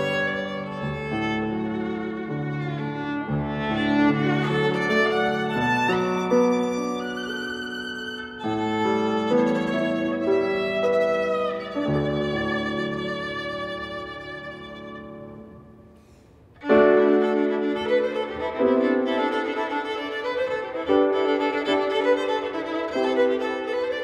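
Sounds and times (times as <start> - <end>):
grand piano: 0.0 - 24.0
violin: 0.0 - 24.0.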